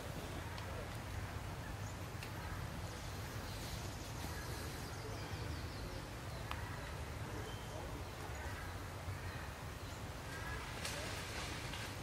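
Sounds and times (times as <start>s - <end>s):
faint bird chirping: 0.0s - 11.5s.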